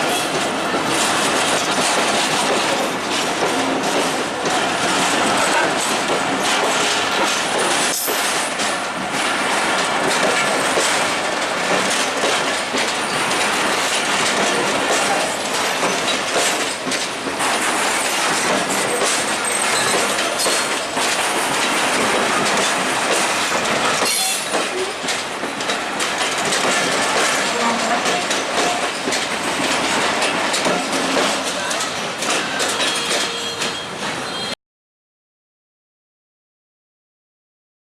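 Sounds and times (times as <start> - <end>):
wheels clacking over rail joints: 0.0 - 34.5
train coaches rumbling and rattling: 0.0 - 34.6.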